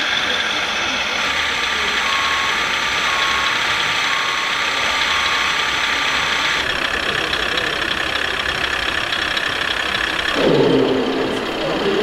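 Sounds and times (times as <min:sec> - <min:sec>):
diesel engine idling sound module: 0:00.0 - 0:12.0.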